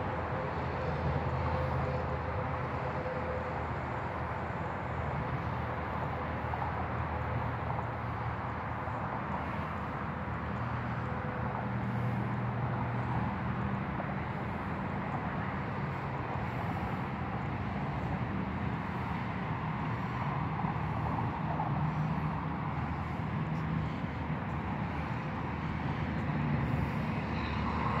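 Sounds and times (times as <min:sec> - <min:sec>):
distant highway traffic rumble: 0:00.0 - 0:28.0.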